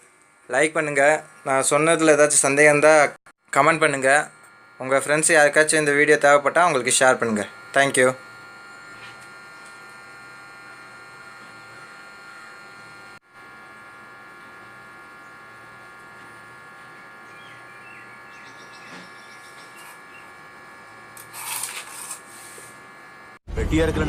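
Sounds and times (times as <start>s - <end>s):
steady electrical hum: 0.0s - 23.4s.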